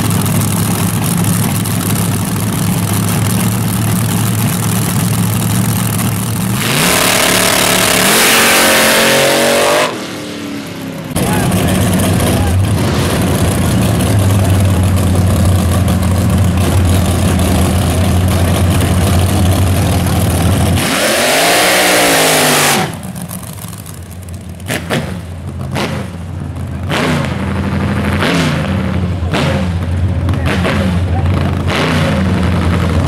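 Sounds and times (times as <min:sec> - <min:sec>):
dragster engine revving: 0:00.0 - 0:33.0.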